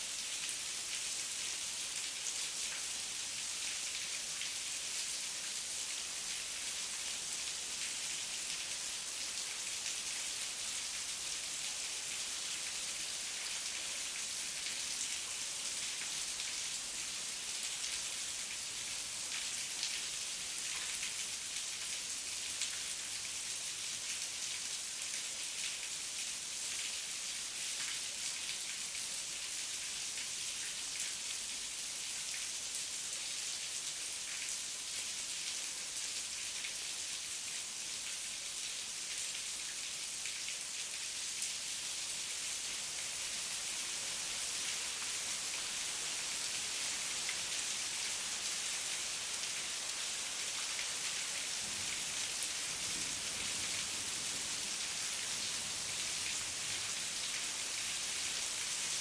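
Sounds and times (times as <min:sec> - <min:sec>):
heavy rain on leaves and ground: 0:00.0 - 0:59.0.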